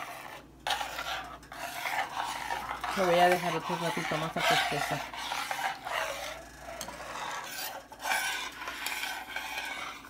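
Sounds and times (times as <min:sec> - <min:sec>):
metal spoon scraping pot: 0:00.0 - 0:10.0.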